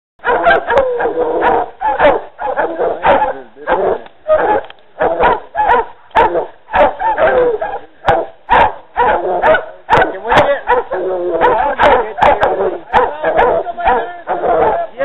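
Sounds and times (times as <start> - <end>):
dogs barking: 0.2 - 15.0.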